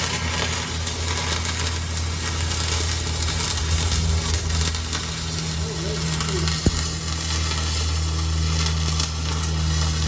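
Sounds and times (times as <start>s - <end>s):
welding arc crackling: 0.0s - 10.0s.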